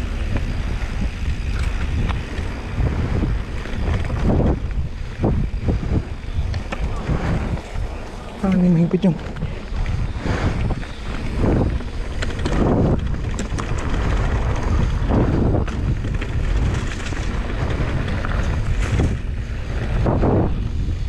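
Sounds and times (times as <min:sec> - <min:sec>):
bike clicks and rattles: 0:00.0 - 0:21.0
bike tyres rumbling: 0:00.0 - 0:21.0
wind buffeting microphone: 0:00.0 - 0:21.0.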